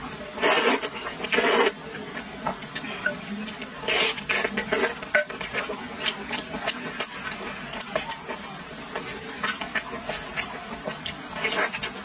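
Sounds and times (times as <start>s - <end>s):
close chewing with mouth clicks: 0.4s - 12.0s.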